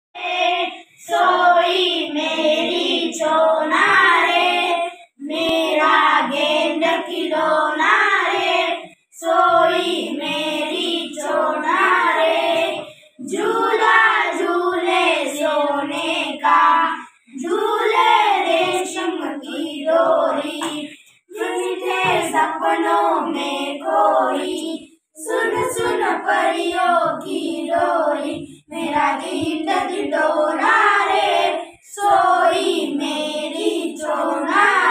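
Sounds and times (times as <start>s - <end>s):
children singing in unison: 0.2s - 34.9s.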